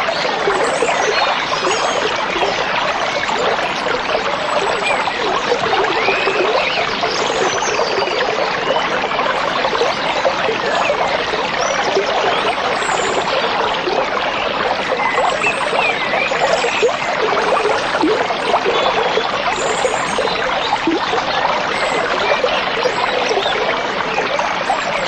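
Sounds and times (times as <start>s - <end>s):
stream trickling and babbling: 0.0s - 25.0s.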